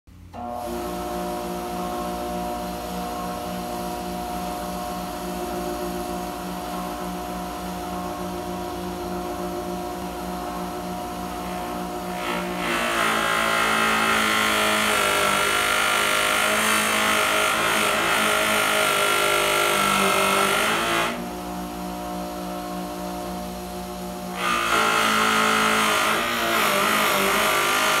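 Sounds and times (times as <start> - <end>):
buffer motor humming: 0.1 - 28.0.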